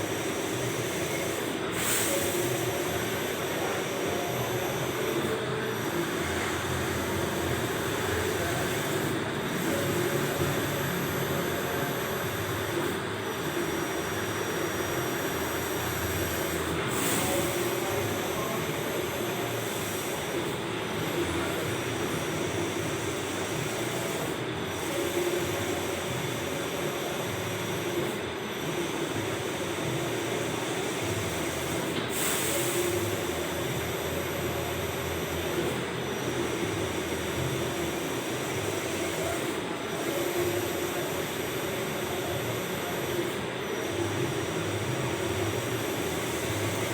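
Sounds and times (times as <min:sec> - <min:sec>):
printer running with high whine: 0:00.0 - 0:46.9.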